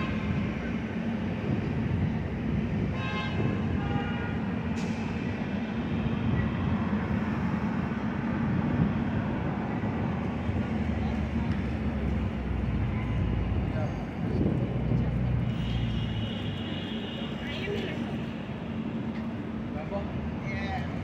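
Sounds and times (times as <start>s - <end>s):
cars passing on street: 0.0s - 21.0s.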